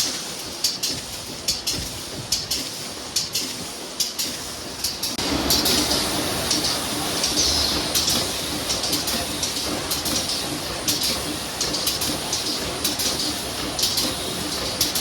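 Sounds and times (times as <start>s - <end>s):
assembly machine running: 0.0s - 15.0s
sharp machine clicks: 0.0s - 15.0s.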